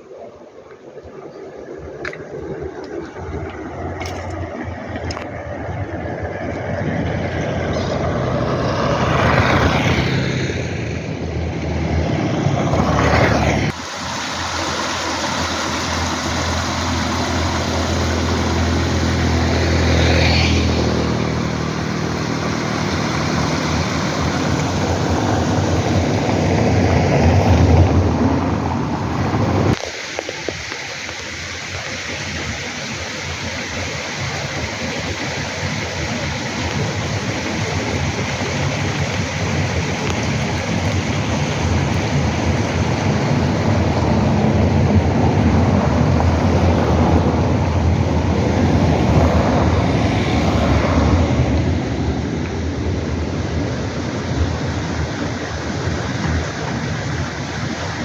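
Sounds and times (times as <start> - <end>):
steady rushing background: 1.2 - 58.0
engine passing by: 2.3 - 29.8, 34.5 - 58.0.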